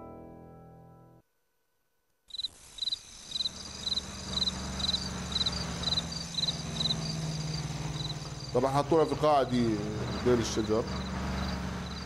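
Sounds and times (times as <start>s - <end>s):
crickets chirping: 2.3s - 12.0s.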